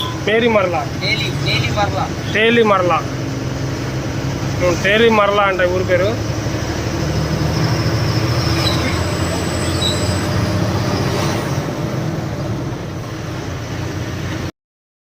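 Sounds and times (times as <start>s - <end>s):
truck engine and road noise: 0.0s - 14.5s.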